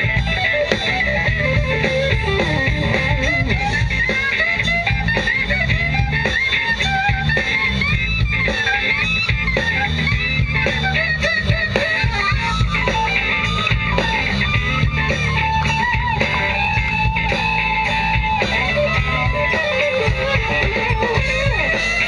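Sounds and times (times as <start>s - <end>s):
bass guitar: 0.0s - 22.0s
drum kit: 0.0s - 22.0s
electric guitar: 0.0s - 22.0s.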